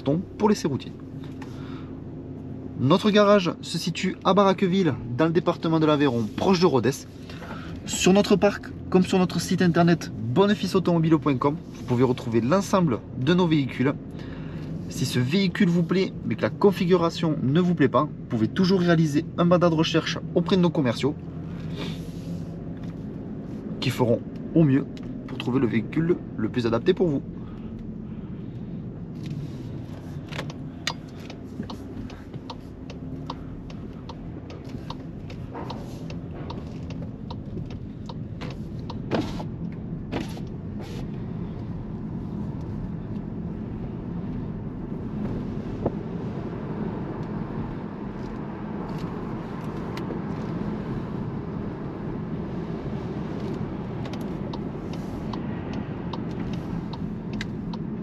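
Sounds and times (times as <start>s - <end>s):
car engine running at low speed: 0.0s - 58.0s.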